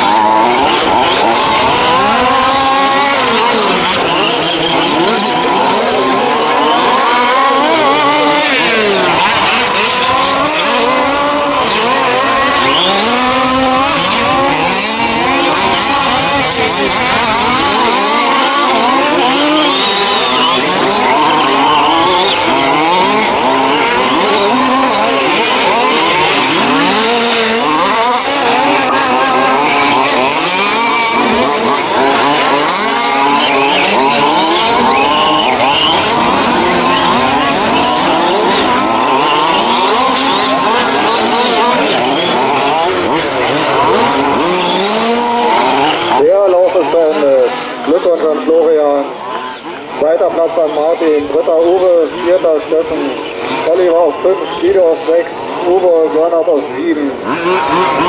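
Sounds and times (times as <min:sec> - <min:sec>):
small engines revving: 0:00.0 - 0:58.0.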